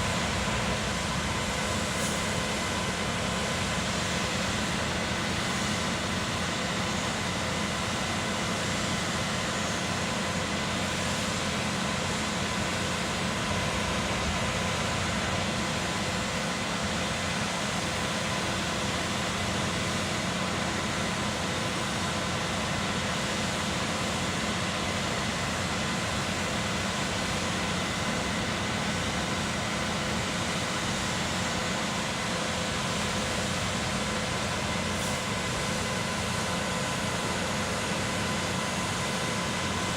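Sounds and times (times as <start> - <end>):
truck engine droning: 0.0 - 39.9.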